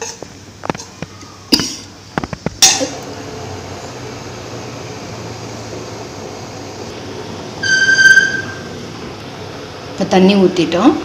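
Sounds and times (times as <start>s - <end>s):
simmering pot hiss: 0.0s - 11.0s.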